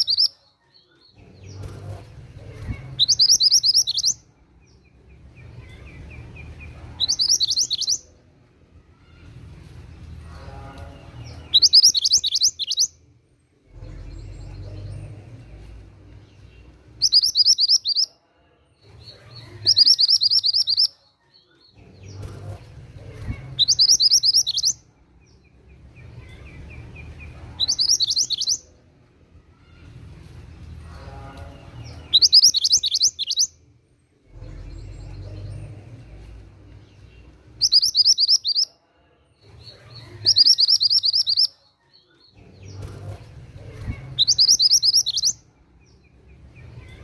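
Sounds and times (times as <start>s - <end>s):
faint low background noise: 0.0s - 47.0s.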